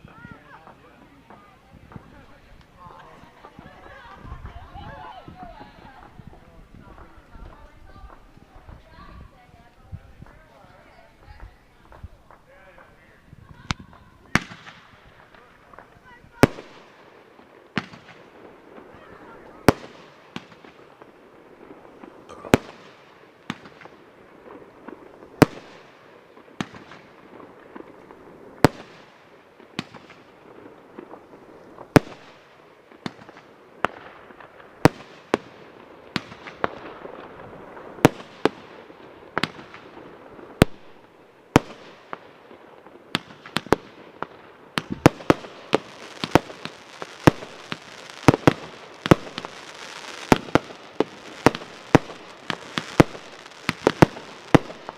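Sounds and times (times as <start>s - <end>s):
firework bangs with crackle: 0.0s - 54.9s.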